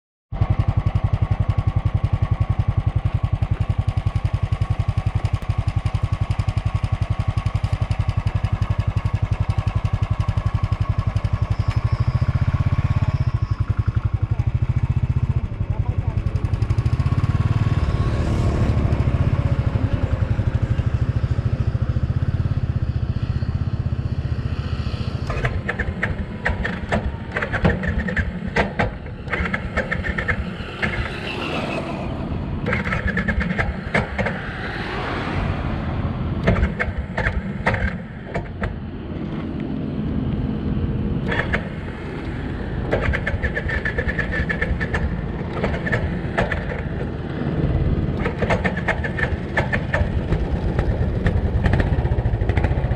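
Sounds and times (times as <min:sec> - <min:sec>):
motorcycle engine rumble: 0:00.3 - 0:52.9
passing vehicle: 0:02.1 - 0:52.9.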